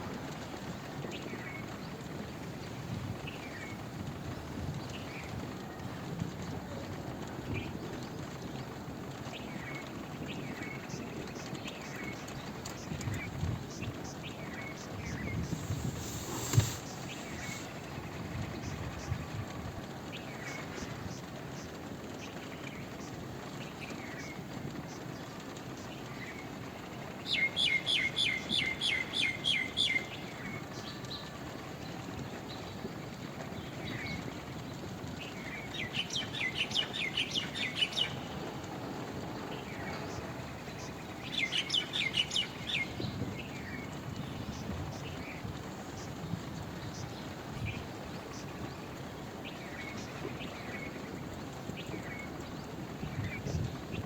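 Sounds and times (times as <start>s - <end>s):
background hiss: 0.0s - 54.0s
steady rain falling: 0.0s - 54.0s.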